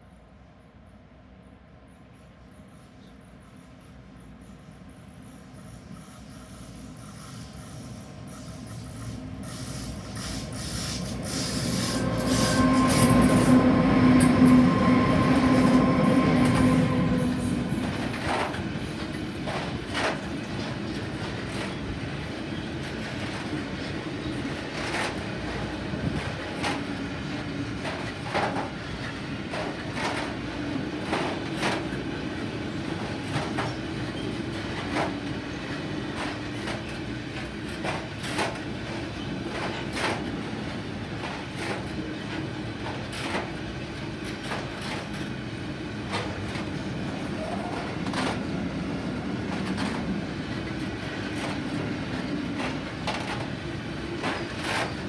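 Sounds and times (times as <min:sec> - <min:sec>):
electric locomotive hum: 0:01.2 - 0:55.0.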